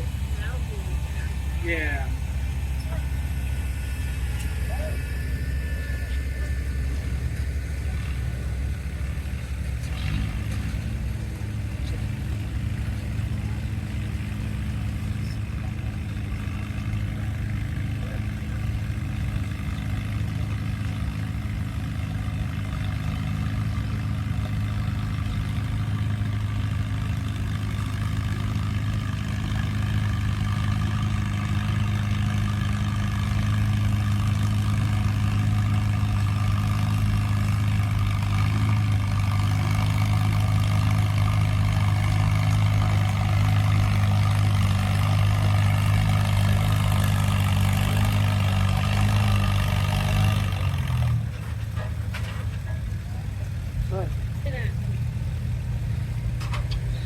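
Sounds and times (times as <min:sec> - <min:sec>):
tractor engine droning: 0:00.0 - 0:57.0.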